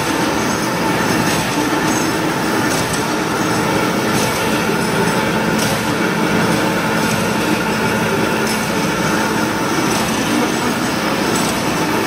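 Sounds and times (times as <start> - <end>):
wire drawing machine running: 0.0 - 12.0.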